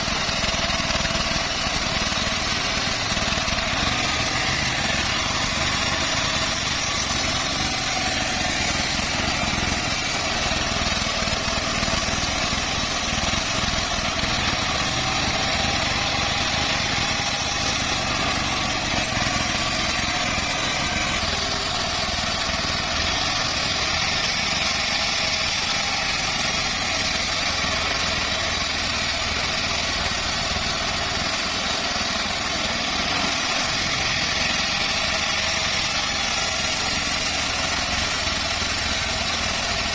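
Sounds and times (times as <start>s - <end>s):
band sawmill sawing wood: 0.0s - 39.9s.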